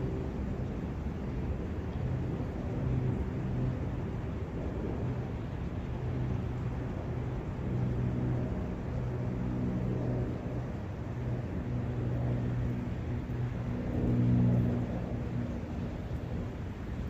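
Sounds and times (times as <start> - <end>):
distant engine hum: 0.0 - 17.0.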